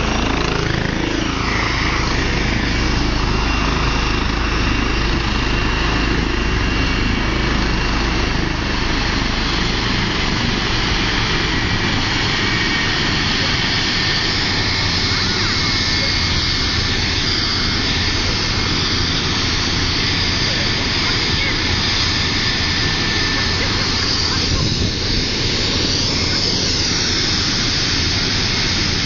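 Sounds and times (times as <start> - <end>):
helicopter rotor and engine: 0.0 - 29.0
high whine: 0.0 - 29.0.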